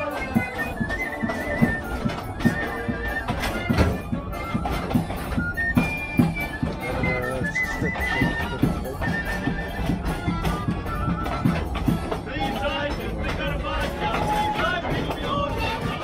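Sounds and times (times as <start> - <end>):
folk melody: 0.0 - 16.0
steady beat thumps: 0.0 - 16.0.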